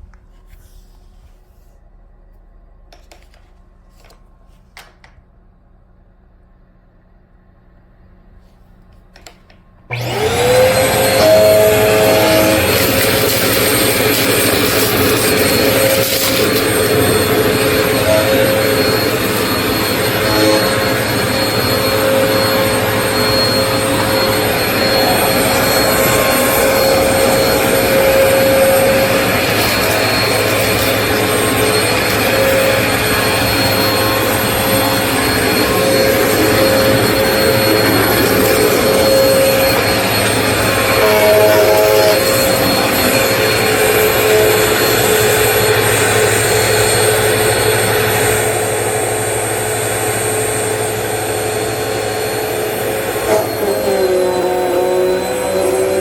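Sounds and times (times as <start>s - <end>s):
upright vacuum cleaner running: 9.9s - 56.0s.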